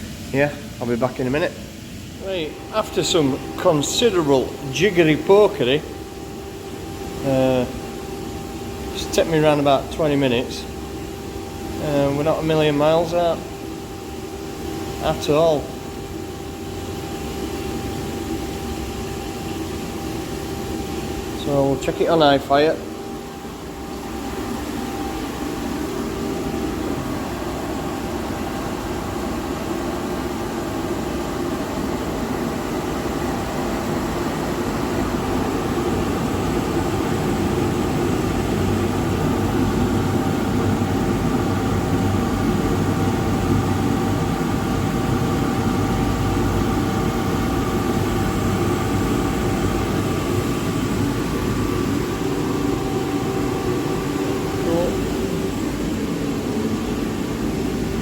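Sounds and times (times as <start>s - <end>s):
gas boiler burner firing: 0.0s - 58.0s.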